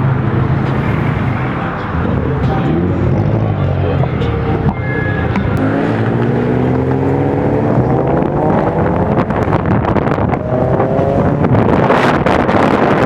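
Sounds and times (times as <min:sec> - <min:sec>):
car engine accelerating: 0:00.0 - 0:13.0
wind noise on microphone: 0:00.0 - 0:13.0.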